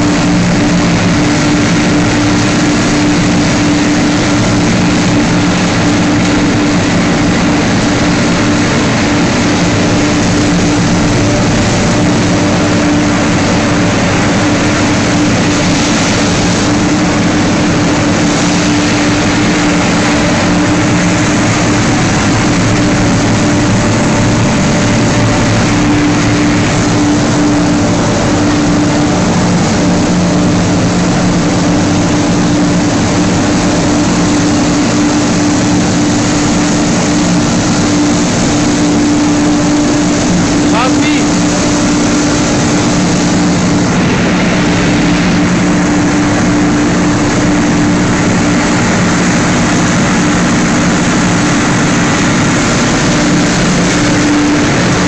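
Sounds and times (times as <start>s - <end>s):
industrial machinery drone: 0.0s - 55.0s
low humming tones: 0.0s - 55.0s
rushing noise: 0.0s - 55.0s.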